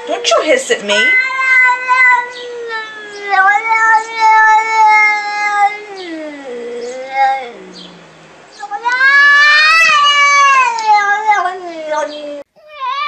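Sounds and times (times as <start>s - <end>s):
cat meowing: 0.8s - 13.0s.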